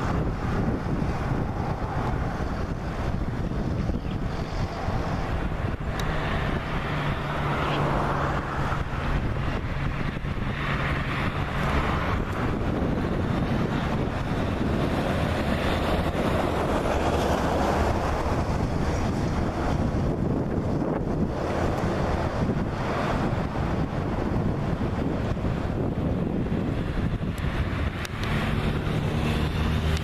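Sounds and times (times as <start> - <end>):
jet engines running: 0.0 - 30.0
wind buffeting microphone: 0.0 - 30.0.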